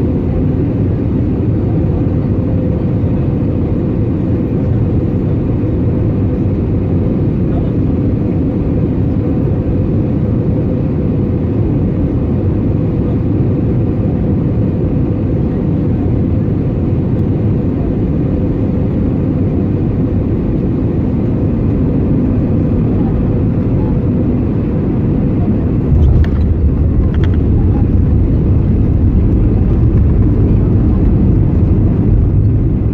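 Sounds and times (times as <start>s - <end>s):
aircraft engine and airflow rumble: 0.0s - 32.9s.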